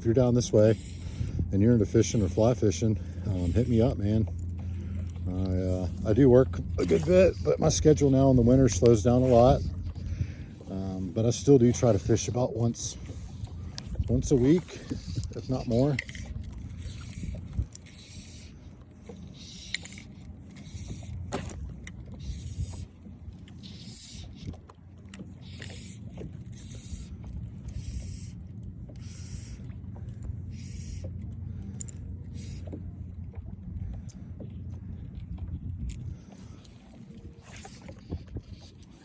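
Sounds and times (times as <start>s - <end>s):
water rumbling: 0.0s - 39.0s
wind: 0.0s - 39.0s.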